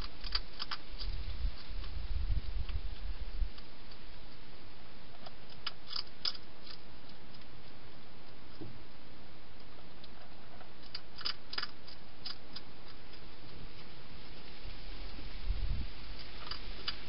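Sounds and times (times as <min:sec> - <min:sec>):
hedgehog crunching food: 0:00.0 - 0:08.6, 0:09.2 - 0:14.5
steady hiss: 0:00.0 - 0:17.0.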